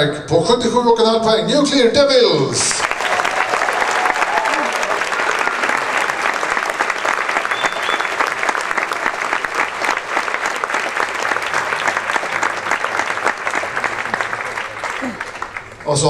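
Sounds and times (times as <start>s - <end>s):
crowd applauding: 2.7s - 16.0s.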